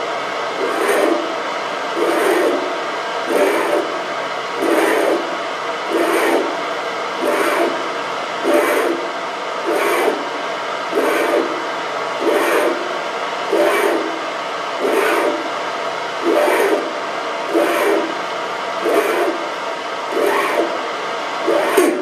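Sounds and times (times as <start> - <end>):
lathe tool scraping brass: 0.6 - 15.6, 16.2 - 18.2, 18.8 - 20.8, 21.4 - 22.0.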